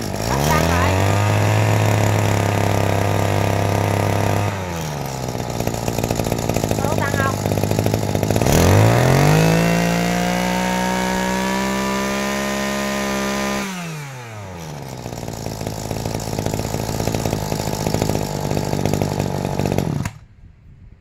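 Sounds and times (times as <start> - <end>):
brush cutter engine revving and idling: 0.0 - 20.3.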